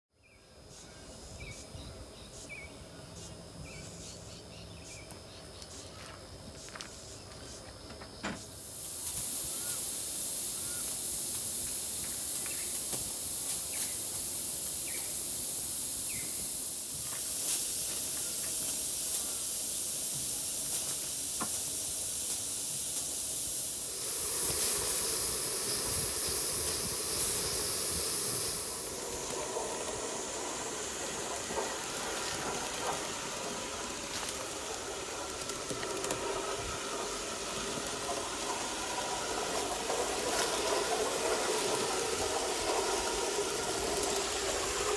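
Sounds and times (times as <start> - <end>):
steam hissing: 6.6 - 44.9
model steam engine rushing: 8.4 - 44.9.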